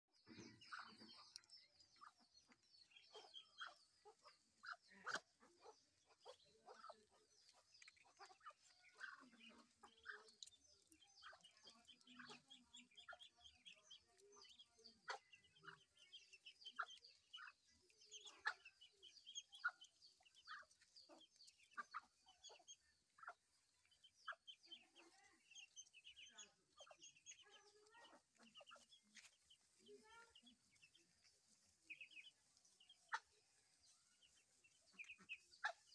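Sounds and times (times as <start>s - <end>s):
low clucking calls: 0.2s - 30.2s
ducklings peeping: 0.2s - 35.9s.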